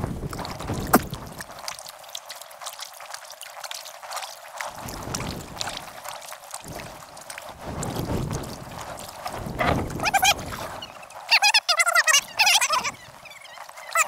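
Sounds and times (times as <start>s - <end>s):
paddles splashing in water: 0.0s - 14.0s
water dripping: 0.0s - 14.0s.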